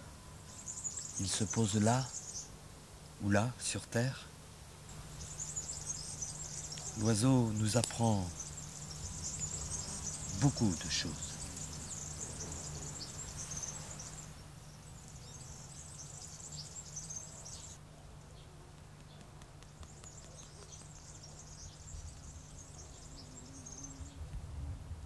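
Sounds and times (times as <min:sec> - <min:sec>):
insects chirring: 0:00.0 - 0:17.8, 0:19.0 - 0:24.2
steady low hum: 0:00.0 - 0:25.0.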